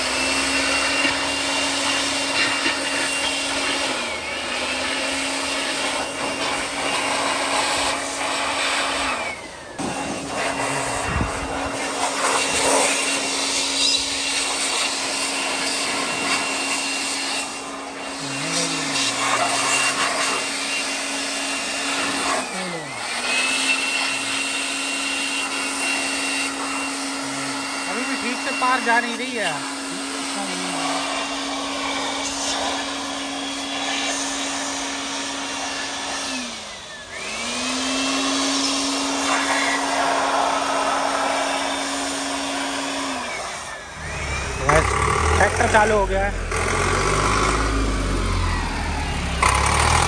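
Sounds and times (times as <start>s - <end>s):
electric air blower whine: 0.0s - 50.0s.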